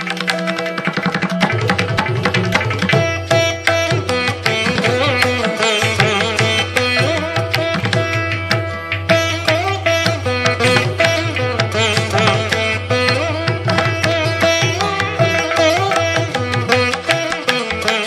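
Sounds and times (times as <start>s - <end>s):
hand drums beating: 0.0s - 18.0s
plucked-string melody: 0.0s - 18.0s.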